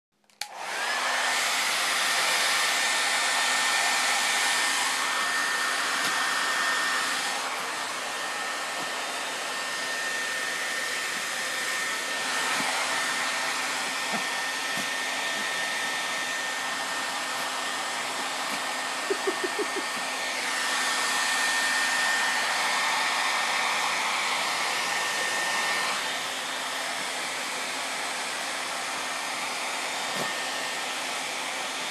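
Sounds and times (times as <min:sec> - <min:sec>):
hair dryer blowing: 0:00.3 - 0:31.9.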